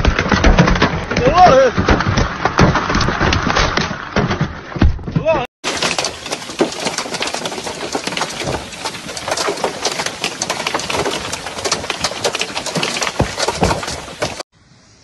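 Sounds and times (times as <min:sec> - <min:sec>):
hail clattering on car: 0:00.0 - 0:04.4, 0:05.6 - 0:14.4.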